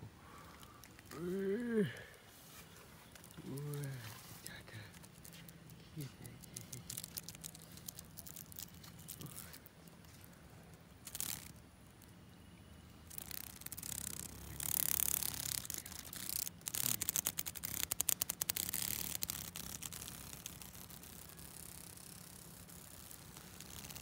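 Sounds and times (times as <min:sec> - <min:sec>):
cicada buzzing distress call: 0:00.2 - 0:09.7, 0:11.0 - 0:24.0.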